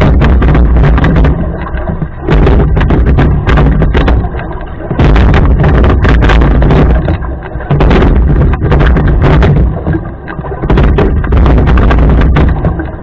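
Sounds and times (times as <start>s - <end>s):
oars knocking on boat: 0.0s - 13.0s
wind rumbling on microphone: 0.0s - 13.0s.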